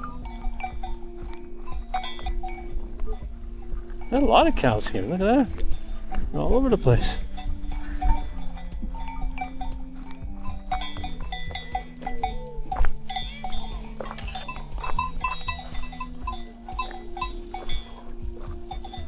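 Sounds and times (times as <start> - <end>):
cowbells clanking: 0.0 - 19.0.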